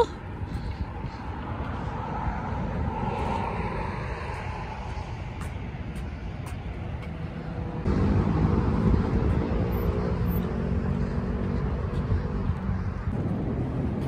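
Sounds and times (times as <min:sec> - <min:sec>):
city traffic: 0:00.0 - 0:14.0.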